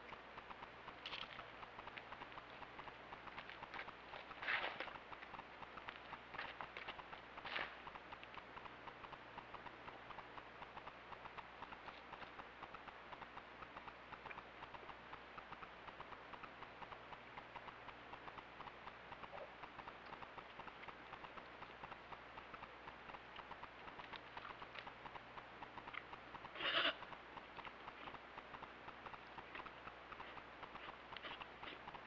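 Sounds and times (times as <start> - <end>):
deer lapping water: 0.0 - 32.0.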